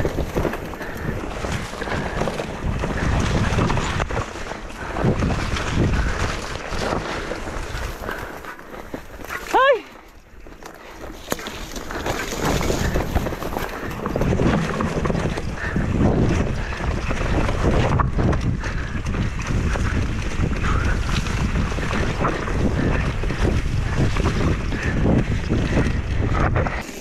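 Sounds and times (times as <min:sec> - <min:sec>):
bike tyres rolling over rough trail: 0:00.0 - 0:27.0
wind buffeting microphone: 0:00.0 - 0:27.0.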